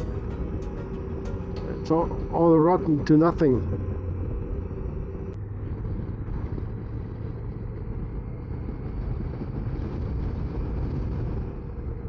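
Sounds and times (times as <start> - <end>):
wind and road noise: 1.9 - 12.0.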